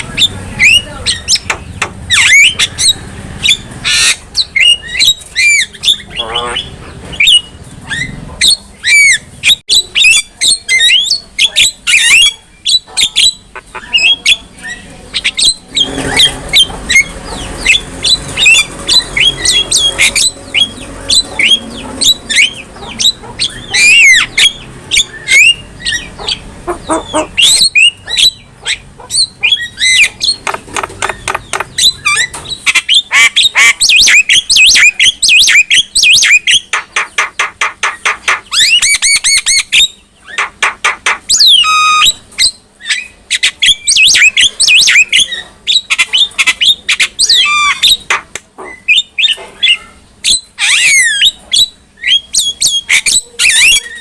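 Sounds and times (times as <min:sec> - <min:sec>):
bird squawking and whistling: 0:00.0 - 0:37.2, 0:37.8 - 0:54.0.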